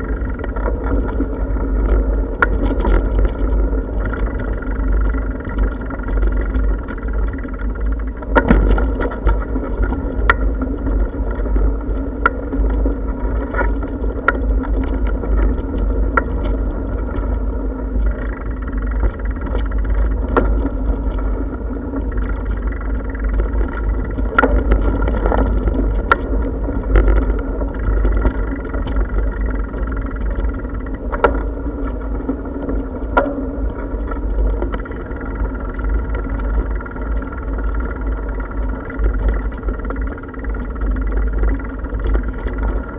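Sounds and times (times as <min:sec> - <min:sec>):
bicycle clicks and rattles: 0:00.0 - 0:42.9
wind and road vibration rumble: 0:00.0 - 0:42.9.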